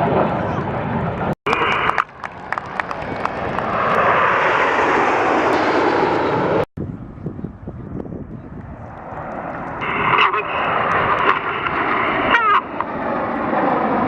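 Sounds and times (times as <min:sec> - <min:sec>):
aircraft engine passing: 0:00.0 - 0:14.0
steady high whine: 0:00.0 - 0:14.0.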